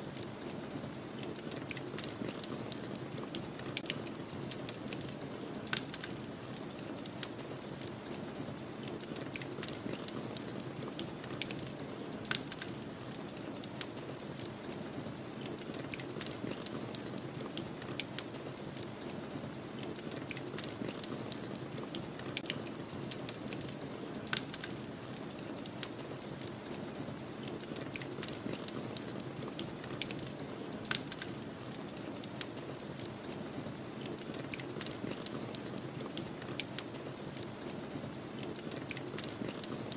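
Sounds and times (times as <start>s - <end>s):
wood fire crackling: 0.0s - 39.9s
sharp pops and snaps: 1.2s - 8.2s, 8.8s - 19.2s, 19.8s - 39.9s.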